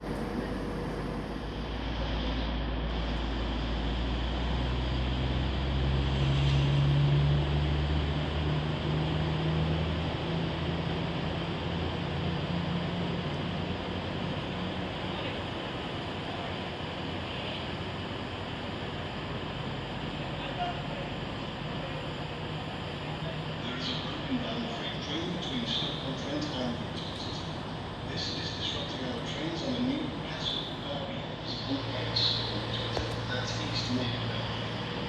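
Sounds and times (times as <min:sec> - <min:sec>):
diesel train engine drone: 0:00.0 - 0:35.0.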